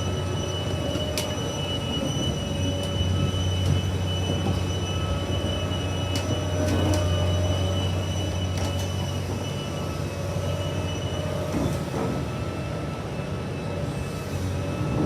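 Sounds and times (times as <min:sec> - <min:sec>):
excavator diesel drone: 0:00.0 - 0:15.0.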